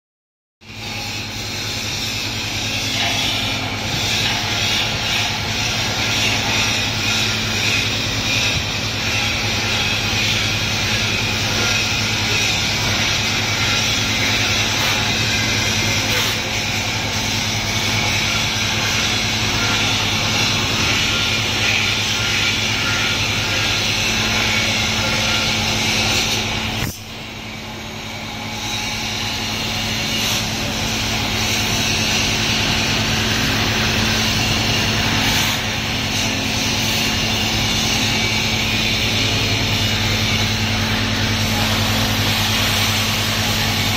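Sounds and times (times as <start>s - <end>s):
machinery low hum: 0.7s - 43.9s.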